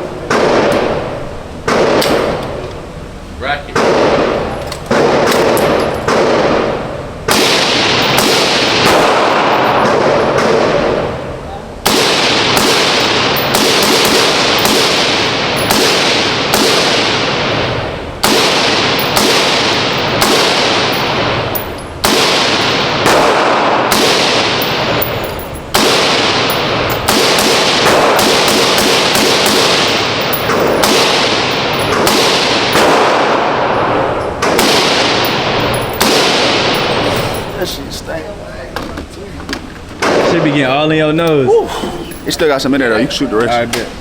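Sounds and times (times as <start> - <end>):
gunshots with long echo: 0.3 - 2.4, 3.8 - 37.6, 40.0 - 40.7.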